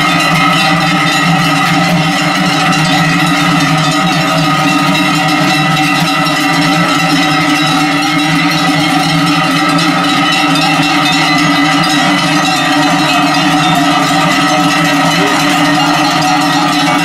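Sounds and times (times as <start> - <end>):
cowbells clanging: 0.0 - 17.0.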